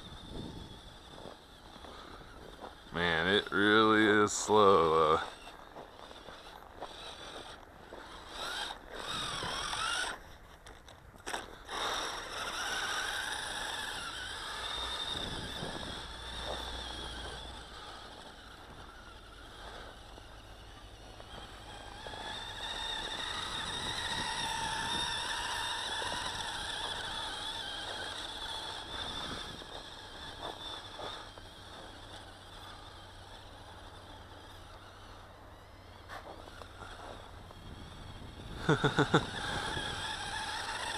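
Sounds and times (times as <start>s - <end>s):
toy electric motor whining: 0.0s - 40.9s.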